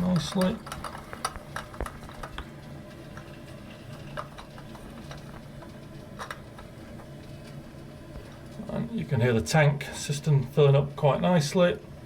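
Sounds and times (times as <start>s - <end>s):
toilet cistern refilling: 0.0s - 11.5s.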